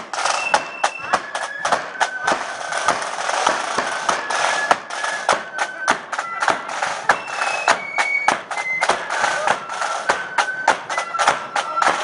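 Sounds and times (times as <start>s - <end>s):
bass drum and drums beat: 0.0s - 12.0s
marching flute band: 0.0s - 12.0s.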